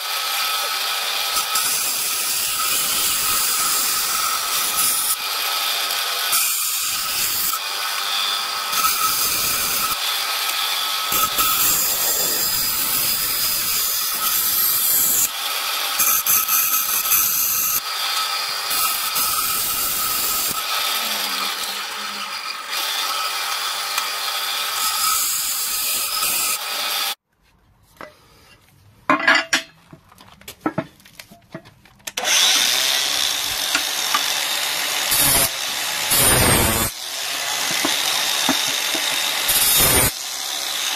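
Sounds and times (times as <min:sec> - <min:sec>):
angle grinder running: 0:00.0 - 0:27.2, 0:32.2 - 0:40.9
bandsaw cutting metal: 0:00.0 - 0:27.2, 0:32.2 - 0:40.9.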